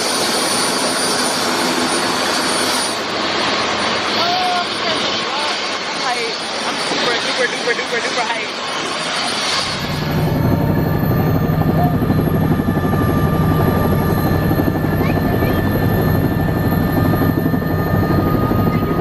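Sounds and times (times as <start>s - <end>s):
helicopter rotor beat: 0.0s - 19.0s
helicopter turbine whine: 0.0s - 19.0s.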